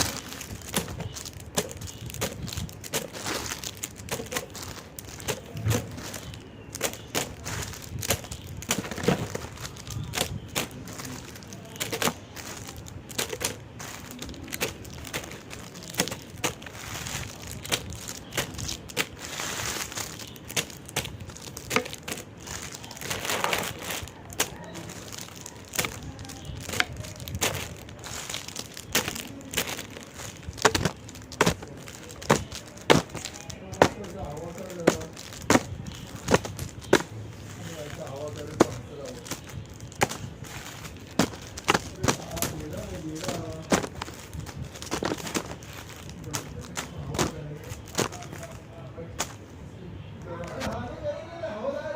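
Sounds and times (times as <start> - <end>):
candy wrapper crinkling: 0.0 - 49.7.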